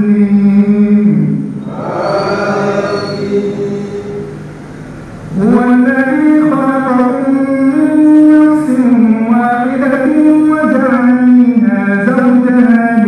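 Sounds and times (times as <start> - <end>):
man chanting recitation: 0.0 - 4.3, 5.3 - 13.0.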